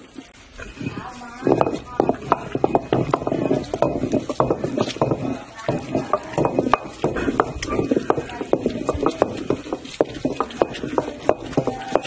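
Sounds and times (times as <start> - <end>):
stone pestle pounding in mortar: 0.8 - 12.0.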